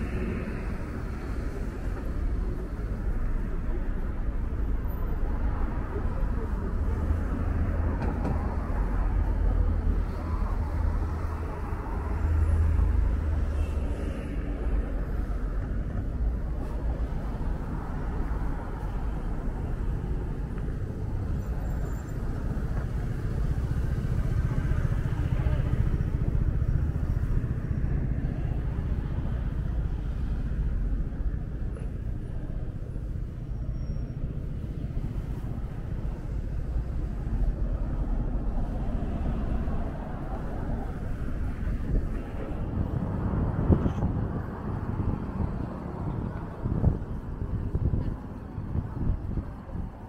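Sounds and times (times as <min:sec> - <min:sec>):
rumble of moving vehicles: 0:00.0 - 0:50.0.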